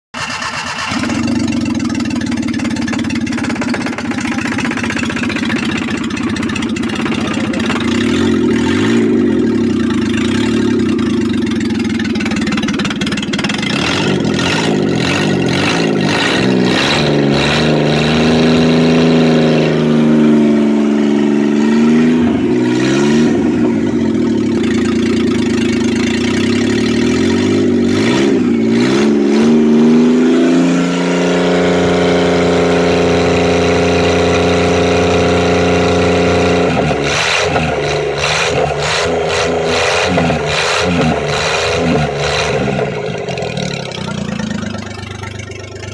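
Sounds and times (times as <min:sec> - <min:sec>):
car engine revving: 0:00.8 - 0:45.9.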